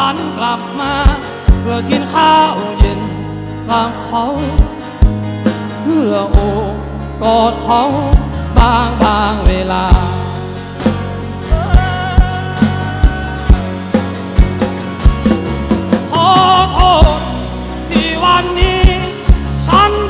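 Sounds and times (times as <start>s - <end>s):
bass: 0.0s - 20.0s
drum kit: 0.0s - 20.0s
electric and acoustic guitars: 0.0s - 20.0s
lead guitar melody: 0.0s - 20.0s.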